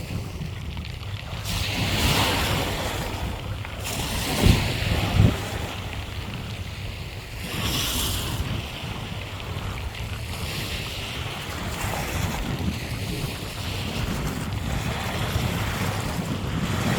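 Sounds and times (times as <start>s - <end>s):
sea waves washing ashore: 0.0s - 16.9s.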